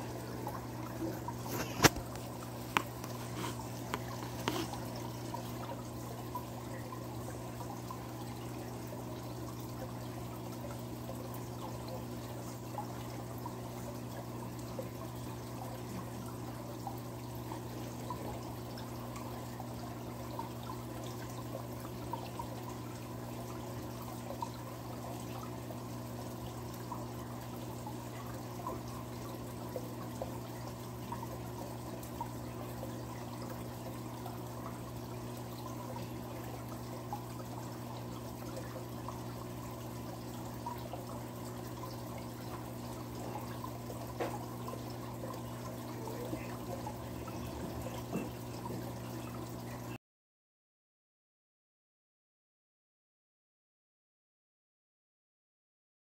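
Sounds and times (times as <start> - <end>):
pump humming: 0.0 - 50.0
water trickling and bubbling: 0.0 - 50.0.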